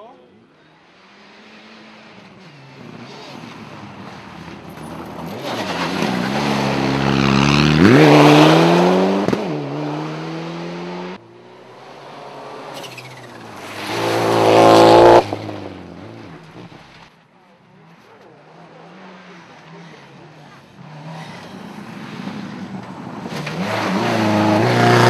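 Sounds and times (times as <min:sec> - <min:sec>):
rally cars passing at full throttle: 0:00.0 - 0:25.0.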